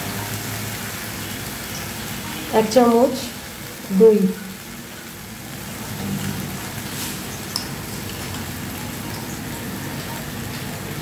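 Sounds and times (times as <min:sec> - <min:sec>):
spices sizzling in oil: 0:00.0 - 0:11.0.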